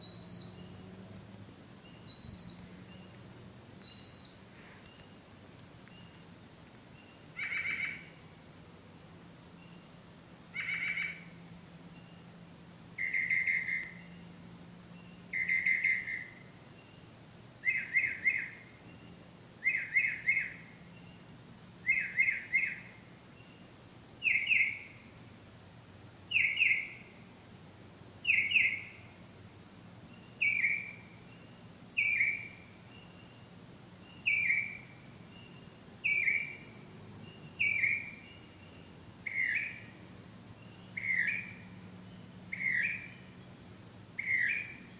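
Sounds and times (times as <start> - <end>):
faint low hum: 0.0 - 44.9
songbird singing: 0.0 - 44.9.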